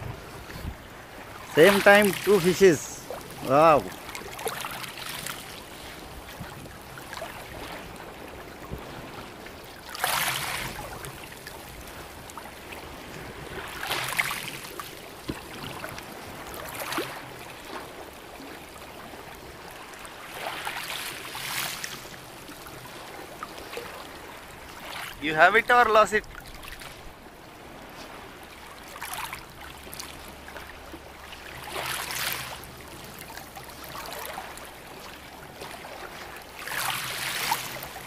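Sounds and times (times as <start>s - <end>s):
small waves lapping on shore: 0.0s - 38.0s.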